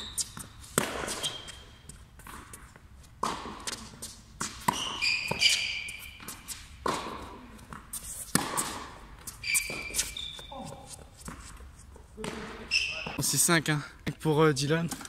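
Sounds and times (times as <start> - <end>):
racket strikes and ball bounces: 0.0 - 13.2
shoes squeaking on court: 0.0 - 13.4.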